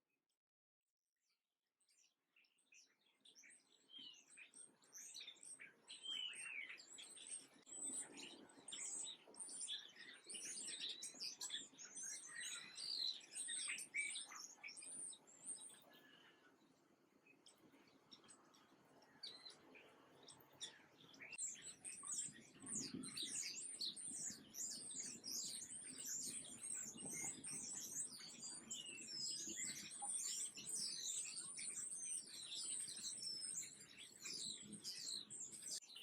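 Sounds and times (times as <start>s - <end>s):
small birds chirping: 1.8s - 36.0s.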